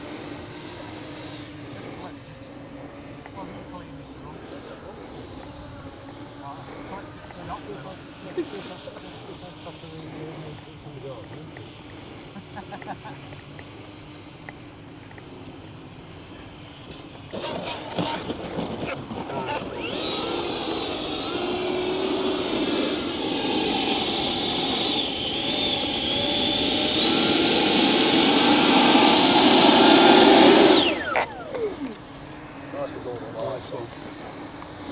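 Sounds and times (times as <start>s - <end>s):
electric ducted fan whining: 0.0s - 34.9s.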